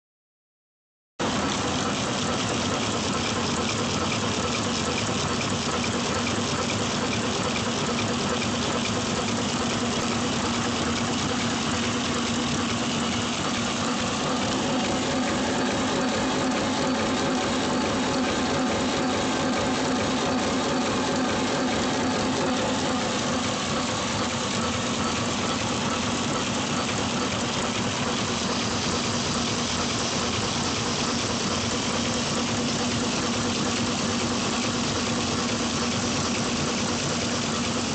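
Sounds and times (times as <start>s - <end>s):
packaging machine whirring: 1.2s - 37.9s.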